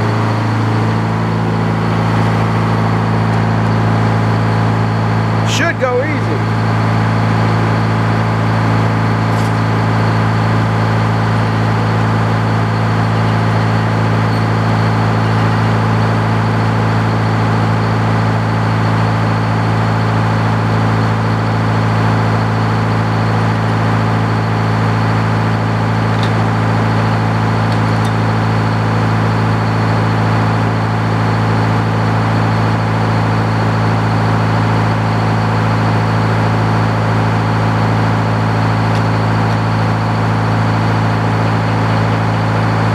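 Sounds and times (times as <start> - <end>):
sawmill machine hum: 0.0 - 42.9.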